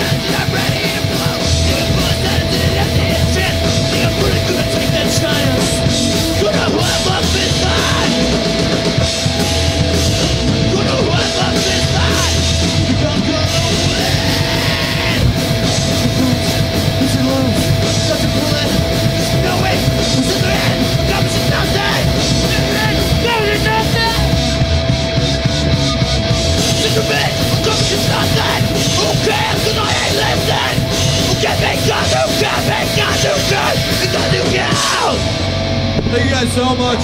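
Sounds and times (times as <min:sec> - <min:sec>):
singer yelling into microphone: 0:00.0 - 0:24.4, 0:25.8 - 0:35.4
punk band playing live: 0:00.0 - 0:37.0.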